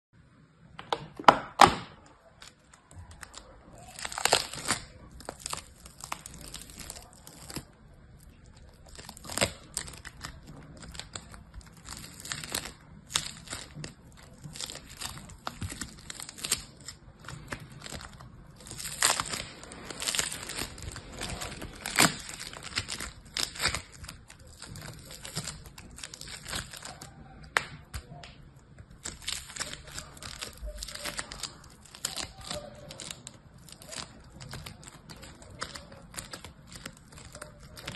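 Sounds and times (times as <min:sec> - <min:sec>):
bead slime crackling and popping: 0:02.4 - 0:37.9.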